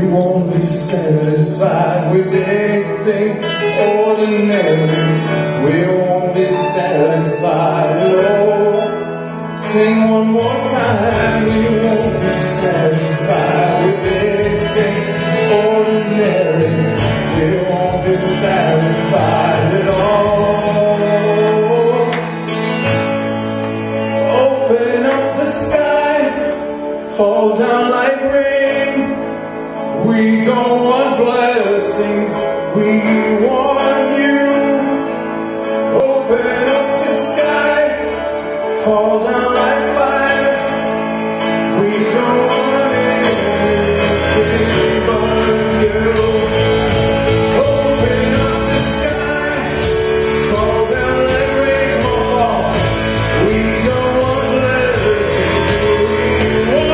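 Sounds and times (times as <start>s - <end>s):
band playing worship music: 0.0s - 56.9s
man singing: 0.0s - 56.9s.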